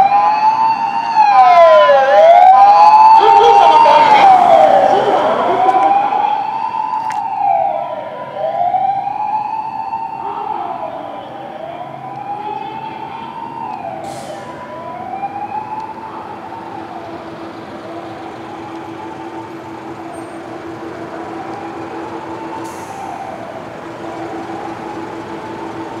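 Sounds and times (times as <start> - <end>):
ambulance siren wailing: 0.0 - 26.0.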